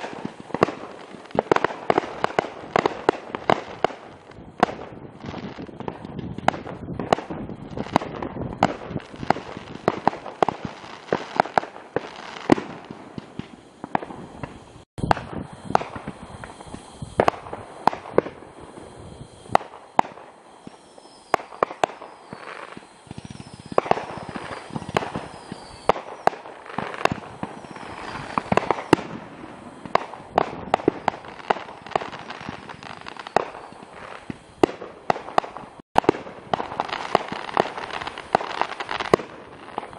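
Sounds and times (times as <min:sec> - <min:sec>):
fireworks bangs and crackles: 0:00.0 - 0:39.9
fireworks falling whistles: 0:00.0 - 0:39.9.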